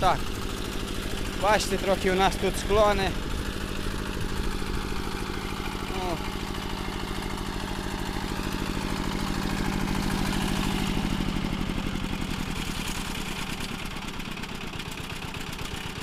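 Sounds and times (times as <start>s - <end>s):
single-cylinder engine throbbing: 0.0s - 16.0s.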